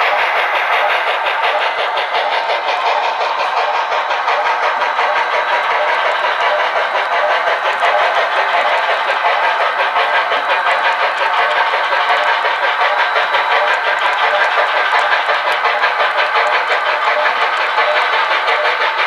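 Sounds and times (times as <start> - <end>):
model train running: 0.0 - 19.0.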